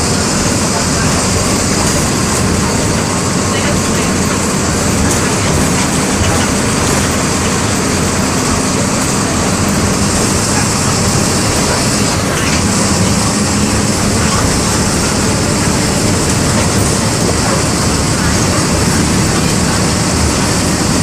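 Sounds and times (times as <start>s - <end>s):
bus diesel engine running: 0.0s - 21.0s
road and body noise: 0.0s - 21.0s.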